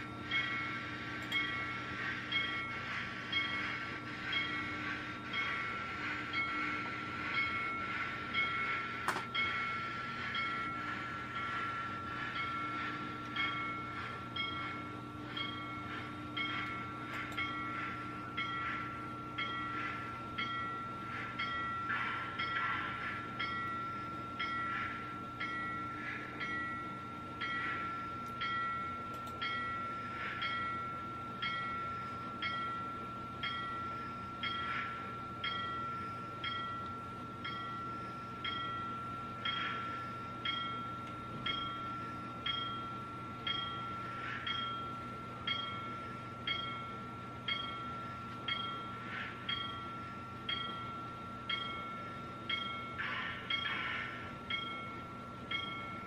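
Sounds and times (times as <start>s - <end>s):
simulated steam locomotive beat: 0.0s - 56.0s
steady high whine: 0.0s - 56.0s.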